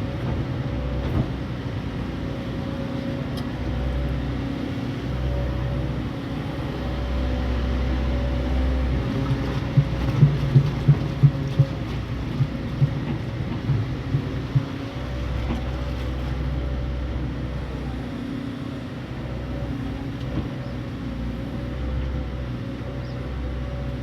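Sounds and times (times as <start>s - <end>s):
excavator engine running: 0.0s - 24.0s.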